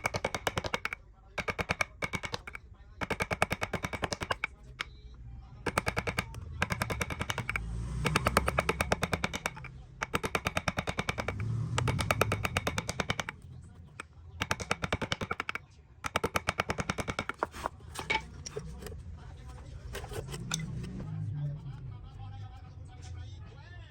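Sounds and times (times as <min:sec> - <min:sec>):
rapid knocking of woodworking tool: 0:00.0 - 0:05.0, 0:05.6 - 0:21.0.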